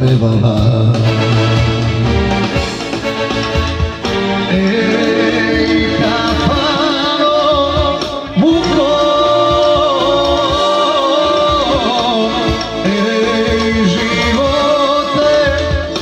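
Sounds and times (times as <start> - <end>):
folk music on arranger keyboard: 0.0 - 16.0.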